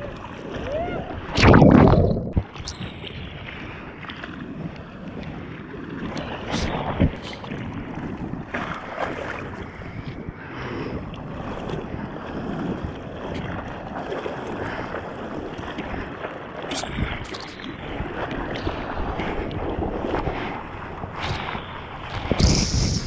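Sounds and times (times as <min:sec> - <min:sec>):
paddling splashes: 0:00.0 - 0:10.0, 0:11.2 - 0:22.5
water sloshing around a bodyboard: 0:00.0 - 0:22.5.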